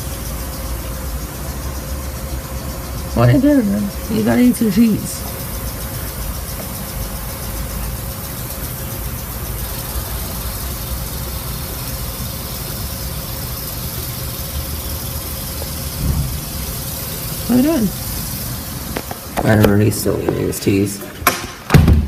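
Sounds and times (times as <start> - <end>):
low background rumble: 0.0 - 20.3
faint constant hum: 0.0 - 22.0.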